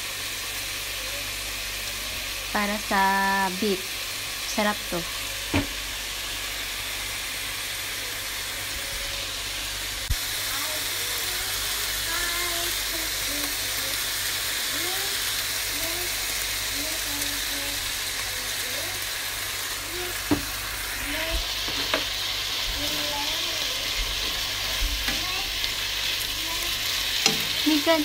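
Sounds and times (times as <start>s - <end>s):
food sizzling in a frying pan: 0.0s - 28.0s.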